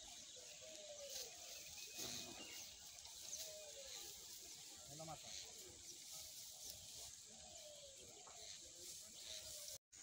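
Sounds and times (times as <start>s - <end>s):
distant bird calls: 0.0s - 9.8s
faint rural ambience: 0.0s - 10.0s.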